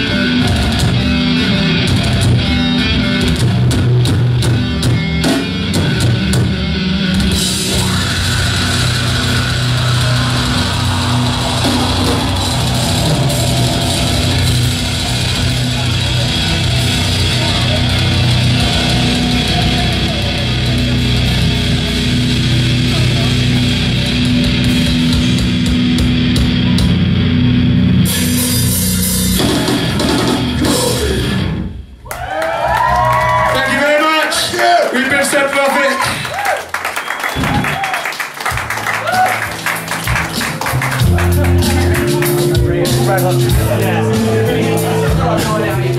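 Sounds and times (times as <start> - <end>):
heavy metal band playing live: 0.0 - 31.9, 38.6 - 45.9.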